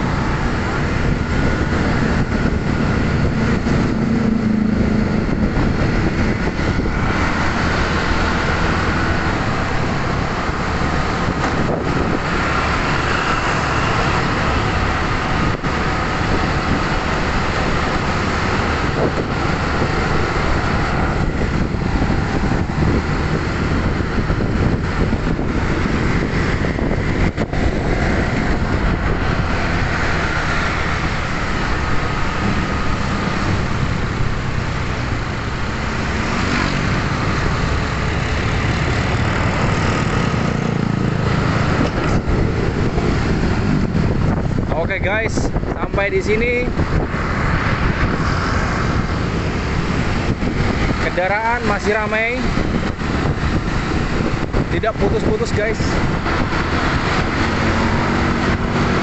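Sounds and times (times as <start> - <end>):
motorcycle and car engines: 0.0 - 59.0
road noise: 0.0 - 59.0.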